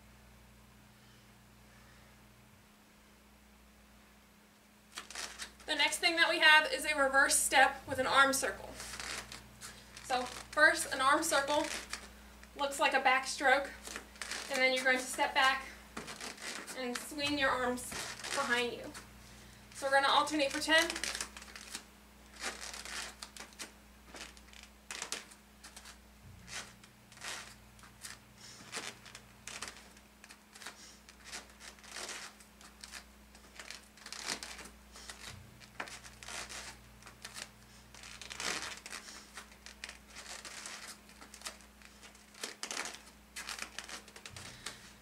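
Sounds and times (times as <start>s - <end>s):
faint low hum: 0.0s - 45.0s
bare feet shuffling on exercise mat: 7.3s - 45.0s.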